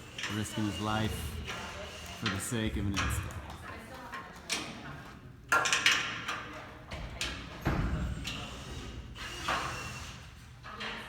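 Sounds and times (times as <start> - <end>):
voices in background: 0.0 - 9.2.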